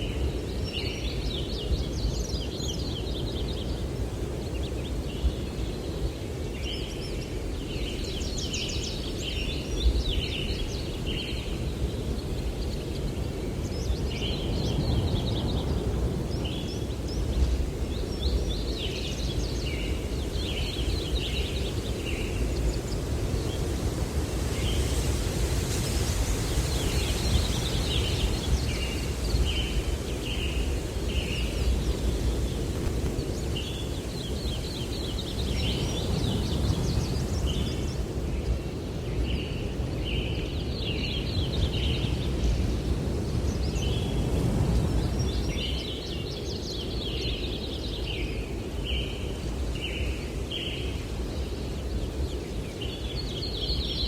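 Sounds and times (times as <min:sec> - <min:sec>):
low wind rumble: 0:00.0 - 0:54.0
songbirds chirping: 0:00.0 - 0:54.0.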